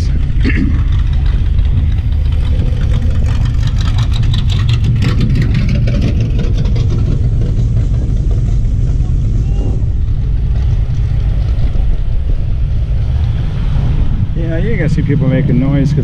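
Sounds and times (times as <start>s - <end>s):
road noise: 0.0s - 16.0s
vehicle engine rumble: 0.0s - 16.0s
wind buffeting microphone: 0.0s - 16.0s.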